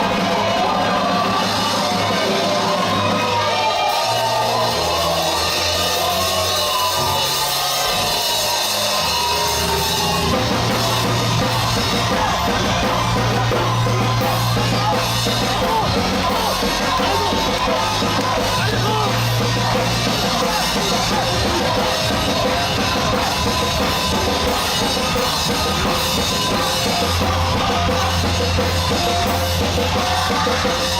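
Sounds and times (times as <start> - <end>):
heavy rock music: 0.0 - 30.9
pounding drum kit: 0.0 - 30.9
sustained bass notes: 3.9 - 30.9.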